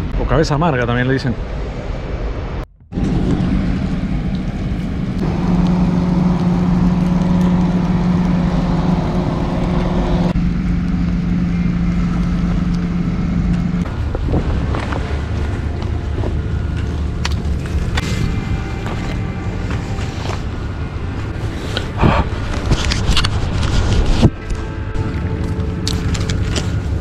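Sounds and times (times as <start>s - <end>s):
motor drone: 2.9s - 27.0s.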